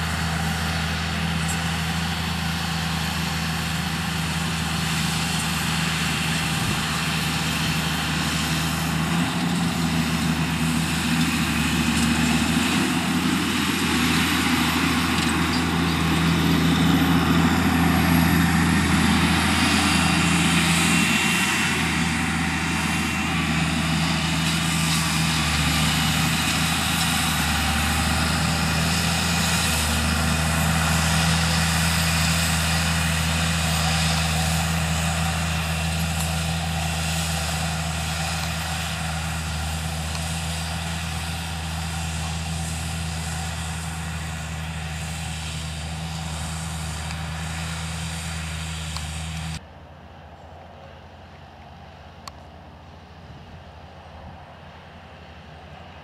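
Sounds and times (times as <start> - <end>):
faint tractor engine: 0.0 - 56.0
tractor engine running under load: 0.0 - 56.0.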